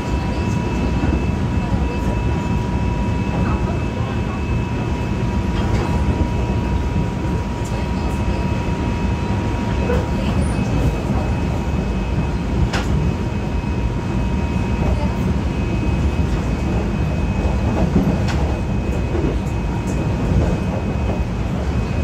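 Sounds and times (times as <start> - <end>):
subway wheels rumbling on track: 0.0 - 22.0.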